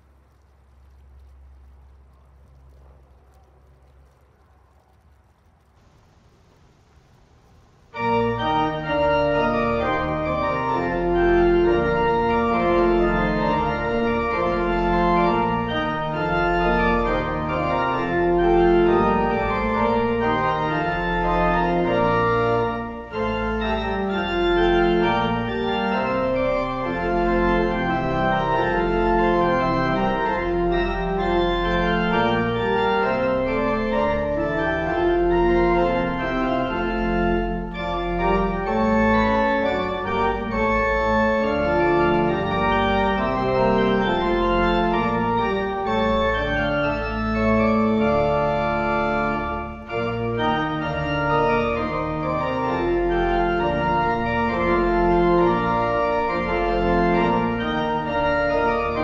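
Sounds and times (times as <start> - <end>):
church organ chords: 7.9 - 59.0.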